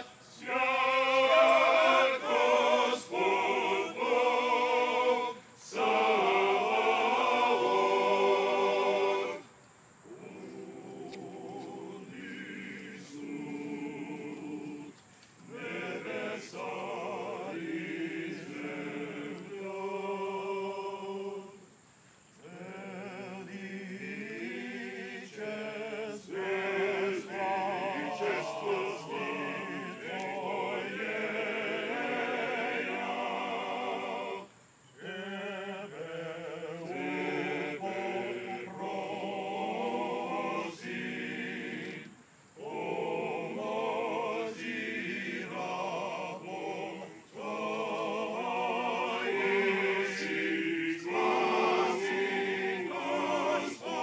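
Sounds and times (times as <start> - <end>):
men's choir singing a cappella: 0.0 - 54.0.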